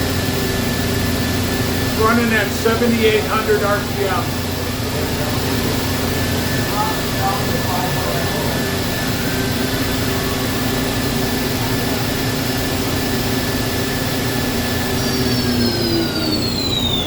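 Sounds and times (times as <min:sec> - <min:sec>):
machine hum: 0:00.0 - 0:17.0
machine spindle whining: 0:00.0 - 0:17.0.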